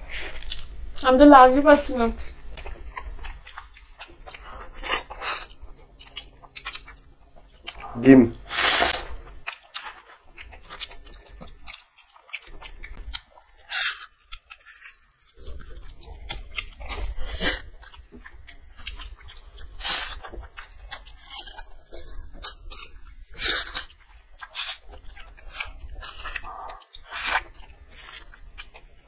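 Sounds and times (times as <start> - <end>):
wet chewing and slurping: 0.0 - 1.0, 2.0 - 29.0.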